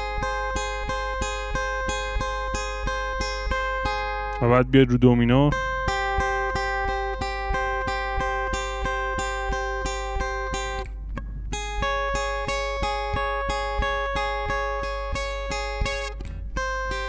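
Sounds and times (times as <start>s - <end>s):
fingerpicked acoustic guitar: 0.0s - 17.0s.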